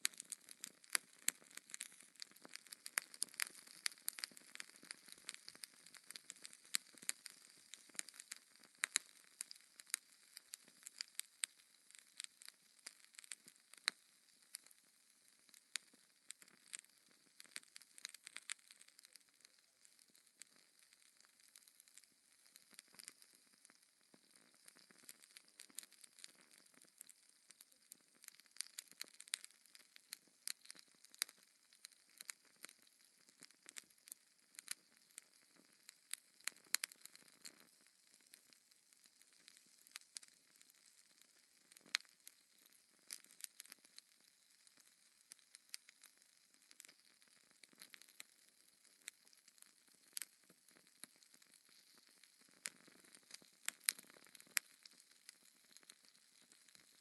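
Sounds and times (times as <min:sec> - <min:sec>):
wood fire crackling: 0:00.0 - 0:14.8, 0:15.4 - 0:57.0.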